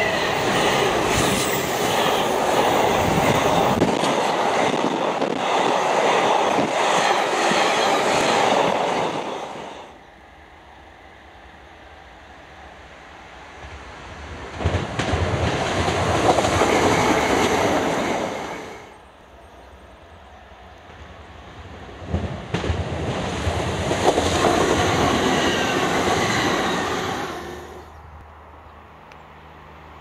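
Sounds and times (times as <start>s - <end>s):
passing train rushing rumble: 0.0s - 30.0s.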